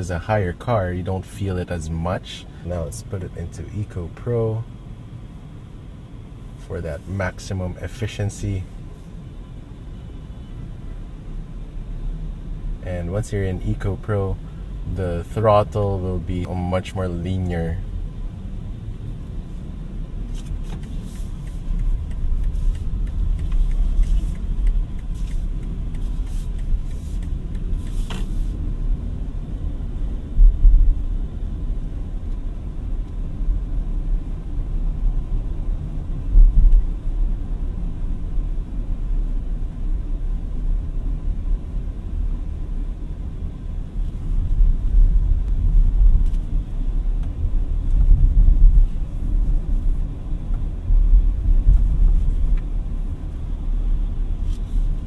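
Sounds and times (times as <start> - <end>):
road and tyre rumble: 0.0 - 55.0.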